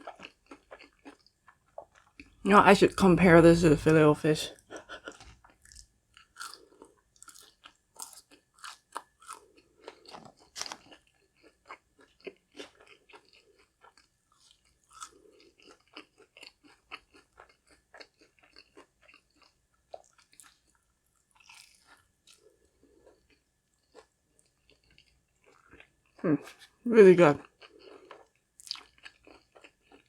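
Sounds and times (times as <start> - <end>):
crunchy chewing: 0.0 - 2.4, 4.7 - 26.8, 27.4 - 30.0.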